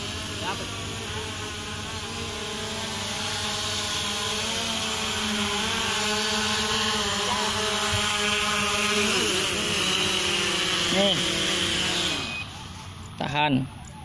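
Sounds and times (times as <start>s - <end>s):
drone propellers buzzing: 0.0s - 14.0s.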